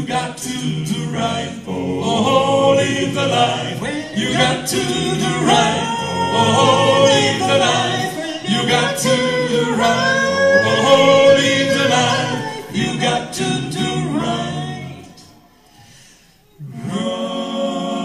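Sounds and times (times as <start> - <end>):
male vocal quartet singing: 0.0 - 15.6, 16.6 - 18.0.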